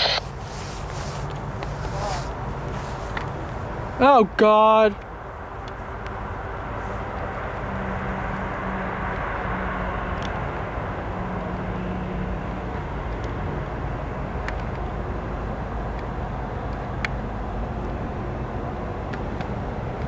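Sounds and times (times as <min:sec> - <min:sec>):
diesel locomotive engines rumbling: 0:00.0 - 0:20.0.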